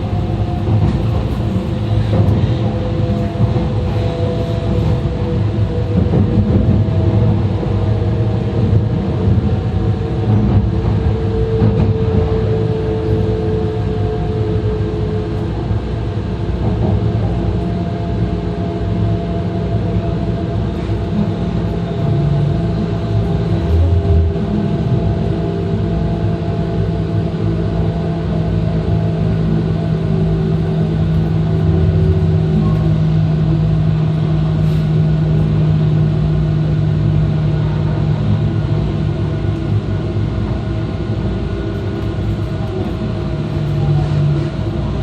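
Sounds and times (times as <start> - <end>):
train running rumble: 0.0 - 45.0.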